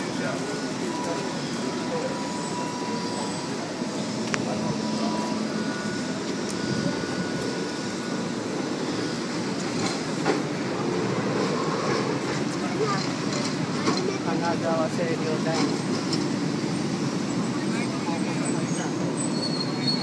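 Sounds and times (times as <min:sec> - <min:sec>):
thin whine of tram: 0:00.0 - 0:20.0
tram rumbling past on rails: 0:00.0 - 0:20.0.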